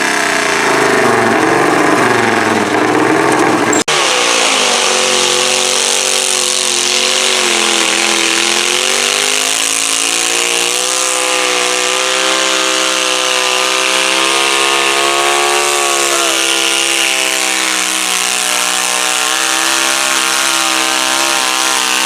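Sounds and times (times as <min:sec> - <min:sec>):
tractor engine running hard: 0:00.0 - 0:22.0.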